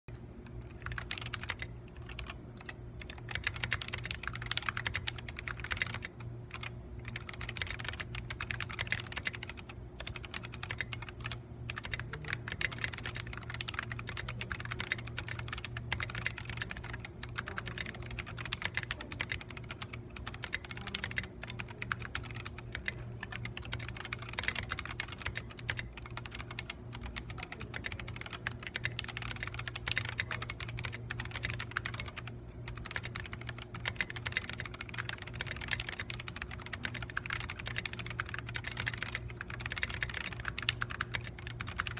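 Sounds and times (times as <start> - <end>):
steady low hum: 0.1 - 41.9
mechanical keyboard typing: 0.4 - 41.9.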